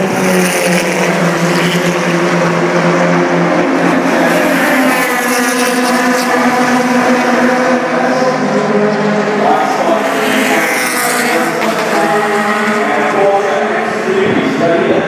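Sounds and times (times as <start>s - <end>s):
racing car engines at high revs: 0.0s - 15.0s.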